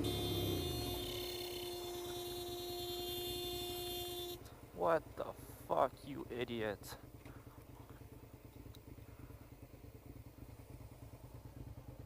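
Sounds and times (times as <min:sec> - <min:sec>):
faint motorcycle engine running: 0:00.0 - 0:12.0.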